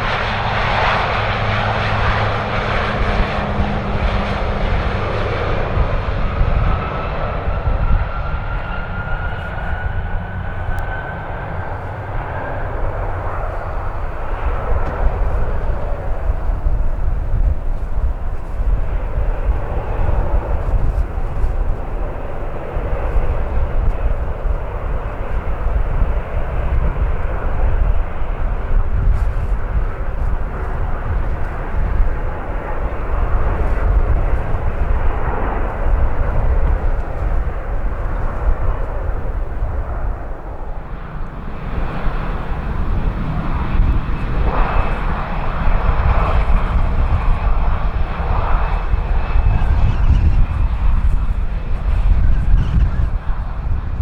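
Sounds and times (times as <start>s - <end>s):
airliner engine roar: 0.0s - 54.0s
wind on microphone: 0.0s - 54.0s.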